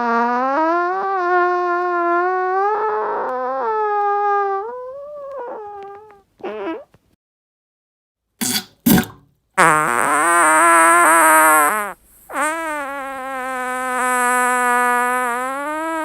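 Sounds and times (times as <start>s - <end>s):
person farting: 0.0s - 4.3s, 5.4s - 6.9s, 8.4s - 16.0s.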